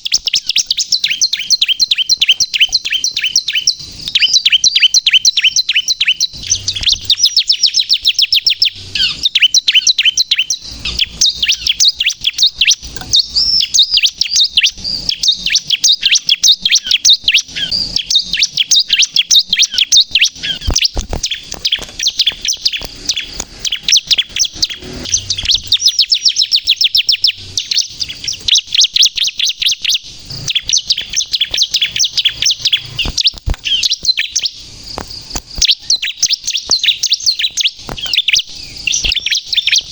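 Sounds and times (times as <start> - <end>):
bird rapid high chirping song: 0.0 - 39.9.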